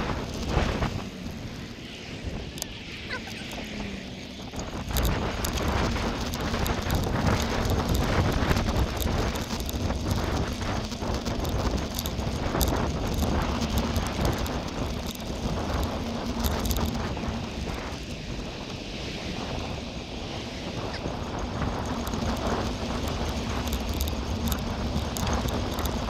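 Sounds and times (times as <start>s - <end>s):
small clicks and rattles: 0.0s - 18.8s, 20.8s - 26.0s
tyres rolling on chip path: 0.0s - 26.0s
wind on microphone: 0.0s - 26.0s.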